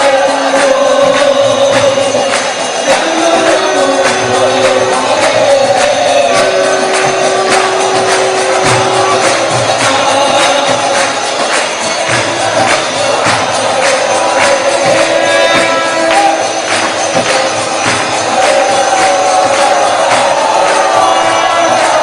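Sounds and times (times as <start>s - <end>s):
group of voices singing a chant: 0.0s - 22.0s
small hand cymbals beat: 0.0s - 22.0s.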